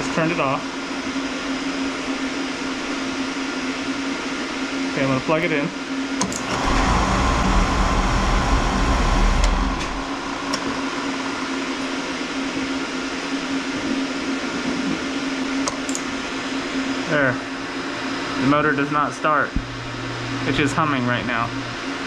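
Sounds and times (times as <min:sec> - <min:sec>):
blower motor humming: 0:00.0 - 0:22.0.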